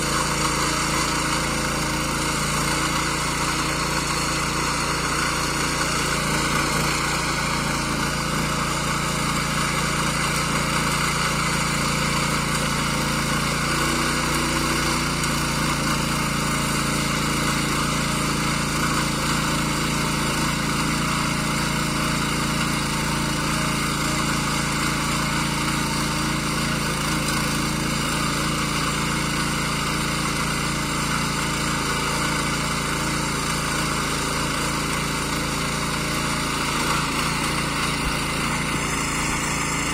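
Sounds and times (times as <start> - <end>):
garden tiller engine running: 0.0 - 39.9.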